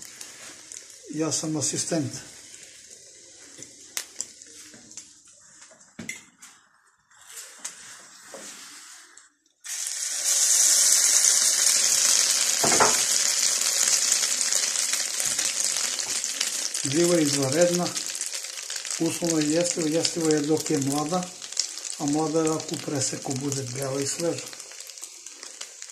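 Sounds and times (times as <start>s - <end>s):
mushroom slices sizzling in oil: 0.0s - 5.2s, 9.6s - 25.9s.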